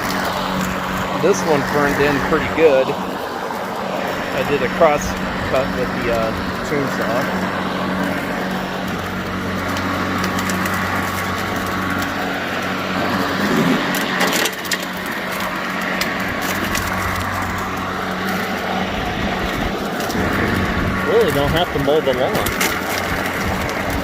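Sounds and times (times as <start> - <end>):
electric lawn mower humming: 0.0 - 24.0.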